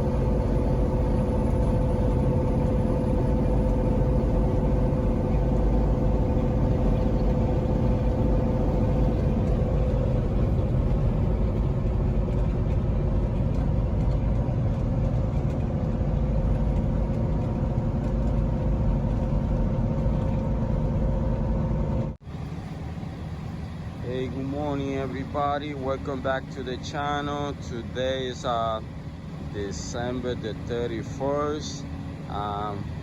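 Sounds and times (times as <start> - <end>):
heavy truck engine rumble: 0.0 - 33.0.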